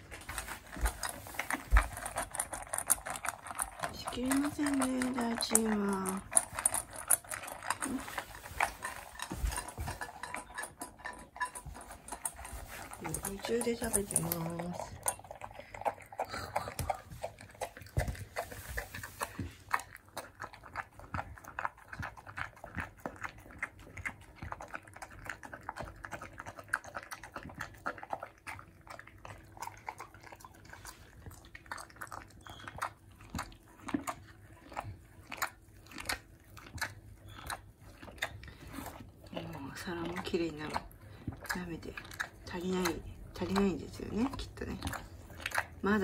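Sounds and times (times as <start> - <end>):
dog crunching food: 0.0 - 46.0
dog licking bowl: 0.0 - 46.0.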